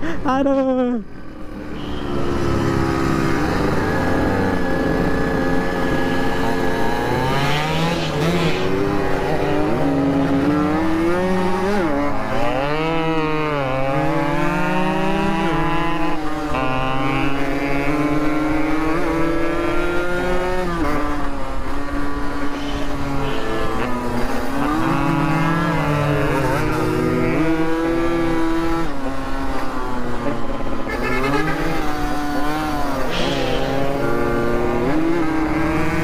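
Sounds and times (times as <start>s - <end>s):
motorcycle engine revving: 1.3s - 36.0s.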